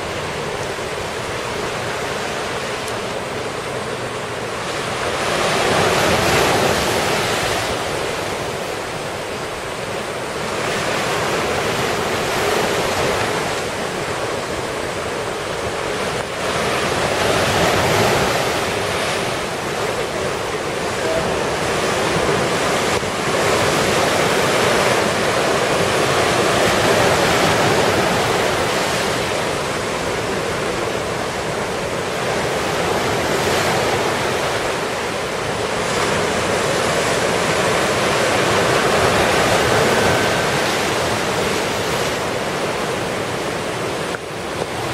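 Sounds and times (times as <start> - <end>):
storm wind and water rushing: 0.0 - 44.9.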